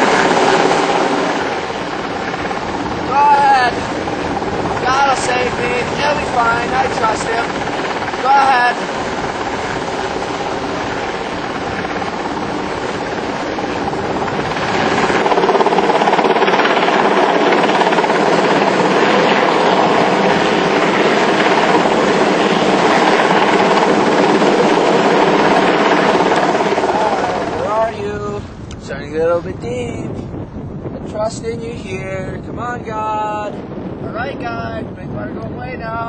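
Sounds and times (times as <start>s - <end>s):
helicopter running: 0.0s - 36.0s.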